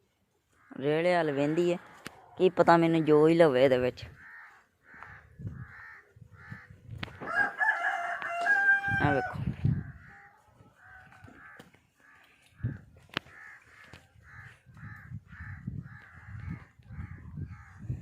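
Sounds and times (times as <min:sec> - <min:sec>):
crows cawing: 0:00.4 - 0:03.4, 0:04.0 - 0:18.0.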